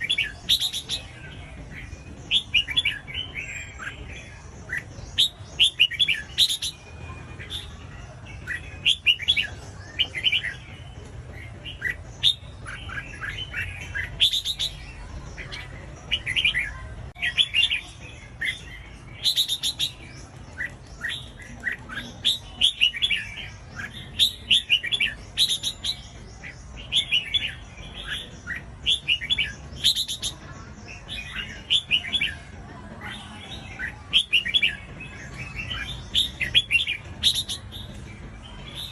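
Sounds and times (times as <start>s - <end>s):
bird song warbling: 0.0s - 38.9s.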